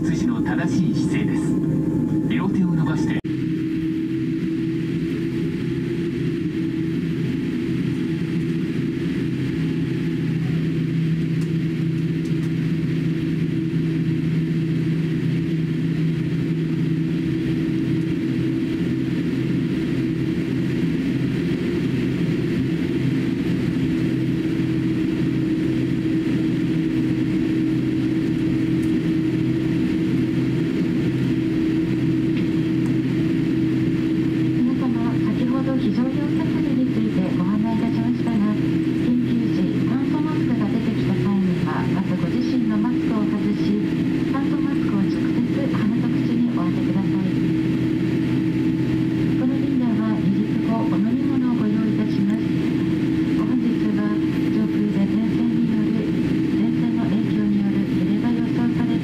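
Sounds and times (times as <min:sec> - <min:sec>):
airplane cabin hum: 0:00.0 - 0:59.0
low engine tone: 0:00.0 - 0:59.0.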